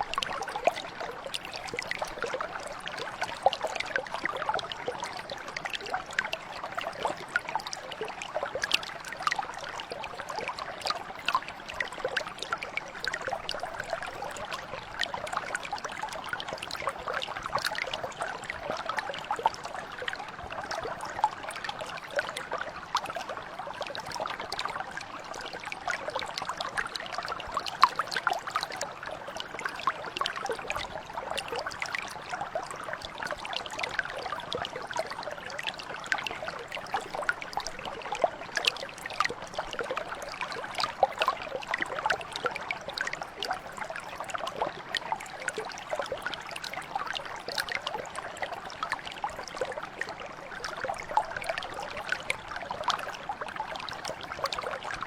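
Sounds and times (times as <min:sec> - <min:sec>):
brook trickling over stones: 0:00.0 - 0:55.0.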